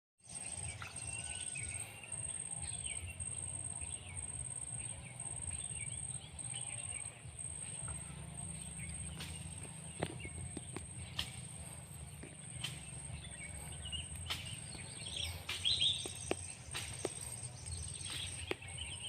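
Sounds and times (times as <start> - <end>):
birds chirping: 0.2 - 19.0
low rumble: 2.7 - 19.0.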